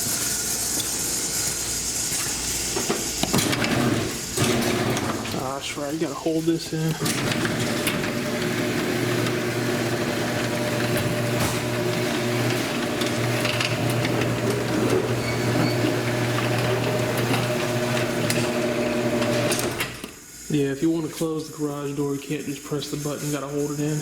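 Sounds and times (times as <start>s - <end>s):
garage door opener motor: 0.0s - 5.9s, 6.8s - 20.5s.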